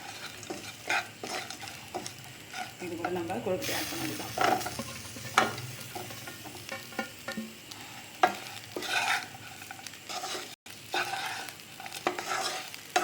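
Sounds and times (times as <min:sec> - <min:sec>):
light sizzle: 0:00.0 - 0:13.0
spatula scraping pan: 0:00.0 - 0:13.0.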